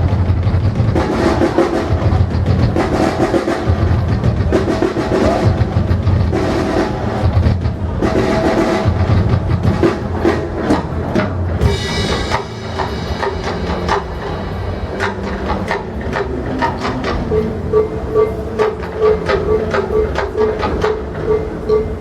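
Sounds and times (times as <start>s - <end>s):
deep drum strokes: 0.0s - 21.8s
percussion ensemble drumming: 0.0s - 22.0s.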